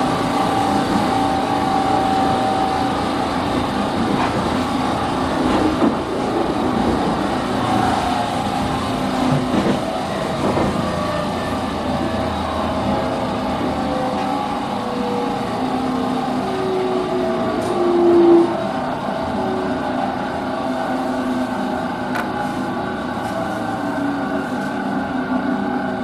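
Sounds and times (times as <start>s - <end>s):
train motor rumble: 0.0s - 26.0s.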